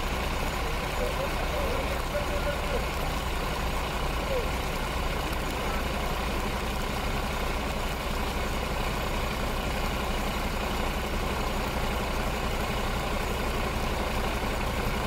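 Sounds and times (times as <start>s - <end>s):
floodwater rushing across road: 0.0s - 15.0s
low engine rumble: 0.0s - 15.0s.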